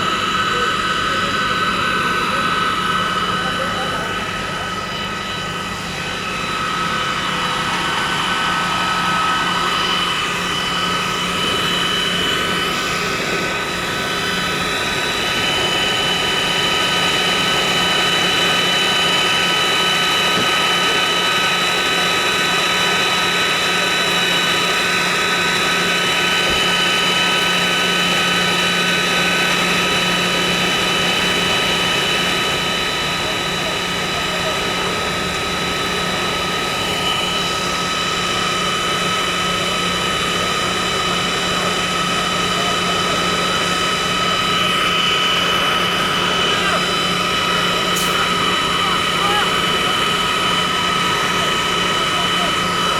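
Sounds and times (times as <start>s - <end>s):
machine drone: 0.0s - 52.9s.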